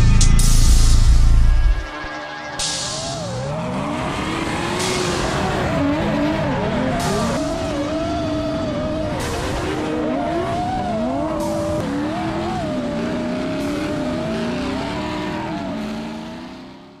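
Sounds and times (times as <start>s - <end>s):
car engines revving: 0.6s - 17.0s
tires skidding: 1.9s - 17.0s.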